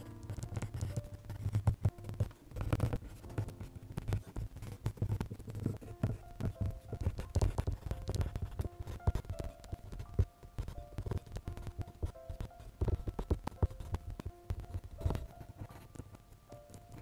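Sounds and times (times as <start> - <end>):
colored pencil scratching on paper: 0.0 - 17.0
soft background music: 0.0 - 17.0.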